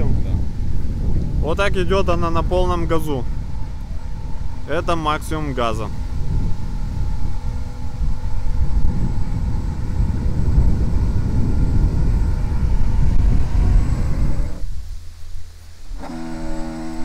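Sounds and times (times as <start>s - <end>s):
thin motor whine: 0.0s - 17.0s
wind rumble on microphone: 0.0s - 17.0s.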